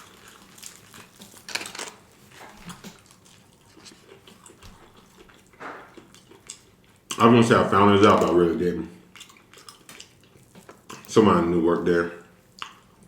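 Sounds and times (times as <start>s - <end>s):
chewing: 0.0s - 11.2s, 12.2s - 13.0s.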